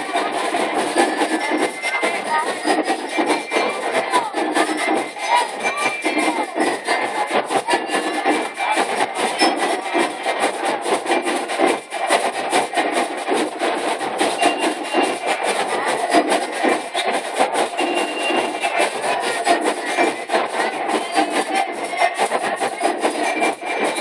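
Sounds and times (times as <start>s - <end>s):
snare drumming: 0.0s - 24.0s.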